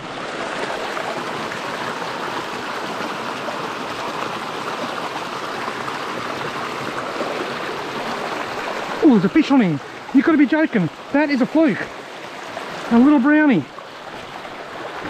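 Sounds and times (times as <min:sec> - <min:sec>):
stream running over rapids: 0:00.0 - 0:15.0.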